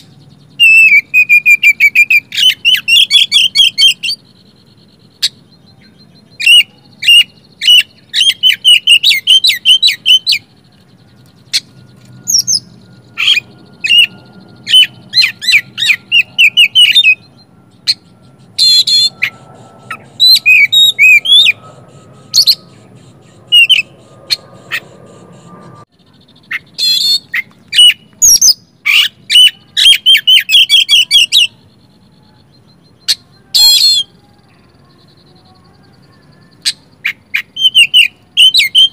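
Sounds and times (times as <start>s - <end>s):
bird singing chirps and trills: 0.0s - 38.9s.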